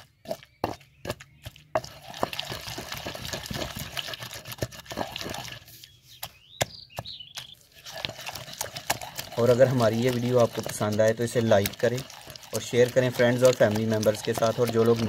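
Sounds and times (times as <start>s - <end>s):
pestle crushing in a stone mortar: 0.0s - 15.0s.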